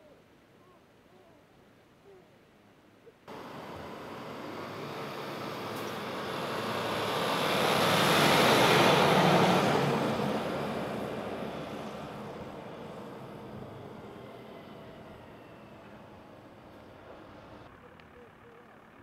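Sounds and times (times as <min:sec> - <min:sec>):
fire engine driving past: 0:03.3 - 0:19.0.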